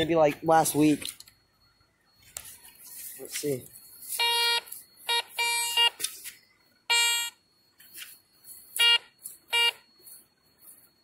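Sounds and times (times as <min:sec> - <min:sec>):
metal detector beeps: 0:00.0 - 0:11.0.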